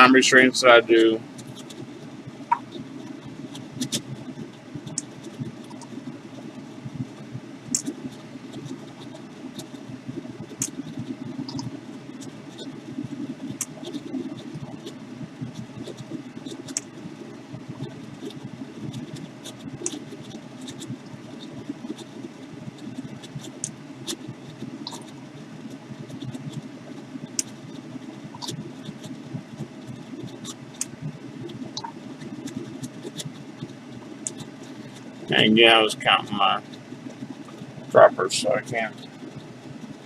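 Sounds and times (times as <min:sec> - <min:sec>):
fan sucking air fluttering: 0:00.0 - 0:40.0.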